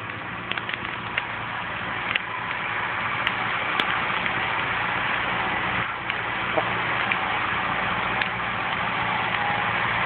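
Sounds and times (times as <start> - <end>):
sharp crackles: 0.0 - 10.0
steady rushing hiss: 0.0 - 10.0
tractor engine running: 0.0 - 10.0.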